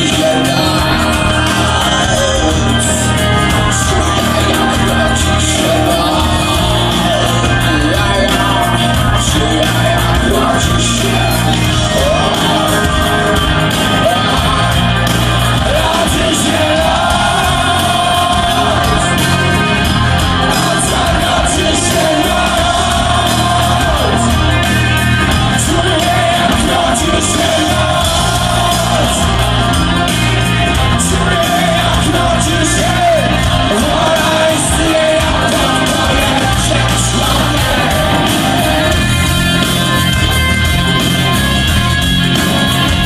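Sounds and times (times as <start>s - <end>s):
loud rock band playing: 0.0s - 43.0s.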